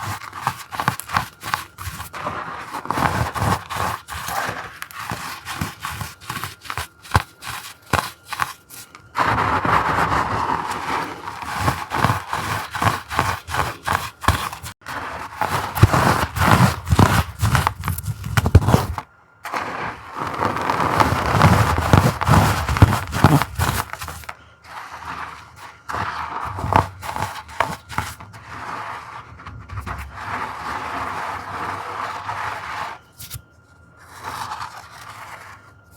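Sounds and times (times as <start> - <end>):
chalk crunched by hand: 0.0 - 29.2.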